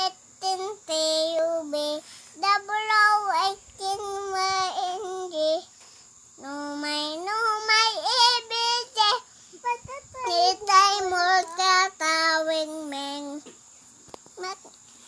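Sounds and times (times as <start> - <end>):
toddler girl singing: 0.0 - 5.7, 6.4 - 13.5, 14.4 - 14.7.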